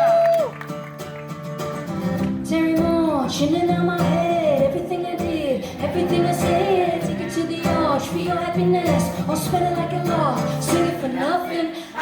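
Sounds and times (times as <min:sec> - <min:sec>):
woman singing: 0:02.3 - 0:12.0.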